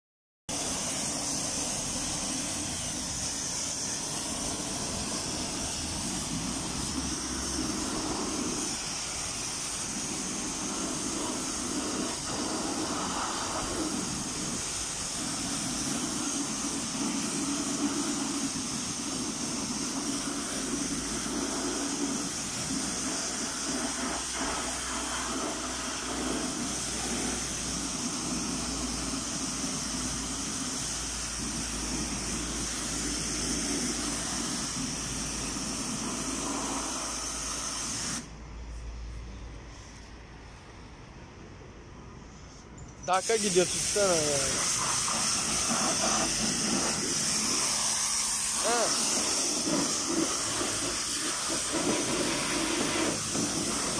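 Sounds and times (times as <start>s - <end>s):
pressure washer jet spraying: 0.5s - 38.3s, 43.1s - 53.9s.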